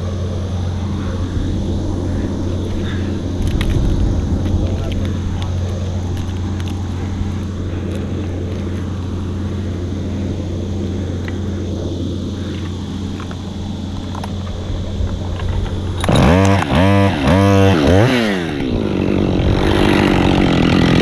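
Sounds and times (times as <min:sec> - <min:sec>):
chainsaw engine idling: 0:00.0 - 0:21.0.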